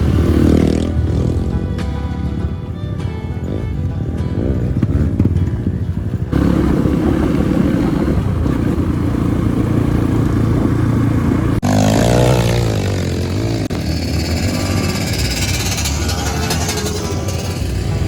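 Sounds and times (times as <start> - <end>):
engine clatter: 0.0 - 18.0
motorcycle engine revving: 0.0 - 18.0.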